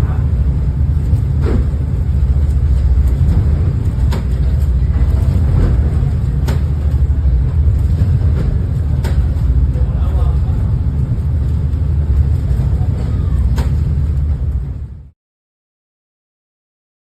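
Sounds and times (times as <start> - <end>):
ferry engines droning: 0.0 - 15.1.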